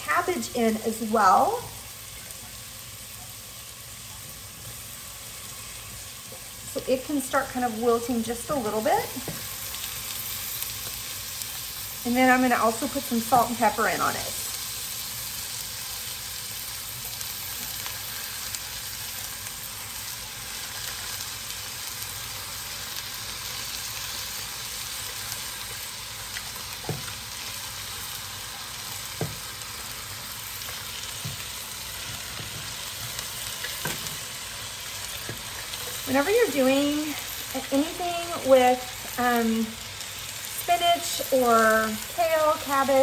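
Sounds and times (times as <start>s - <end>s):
cabbage sizzling in a pot: 0.0s - 43.0s.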